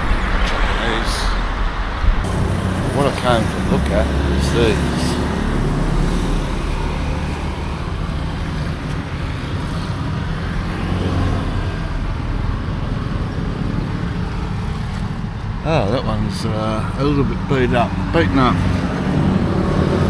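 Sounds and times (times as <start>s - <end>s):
street traffic hum: 0.0s - 20.0s.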